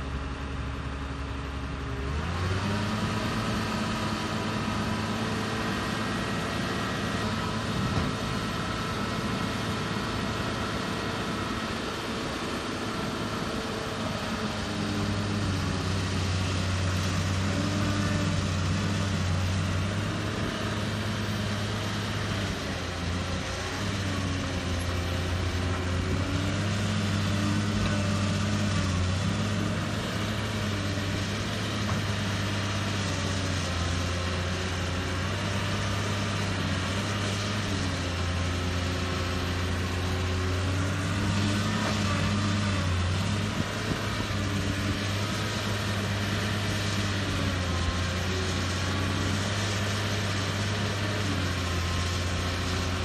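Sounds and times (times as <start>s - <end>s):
excavator diesel engine under load: 0.0s - 53.0s.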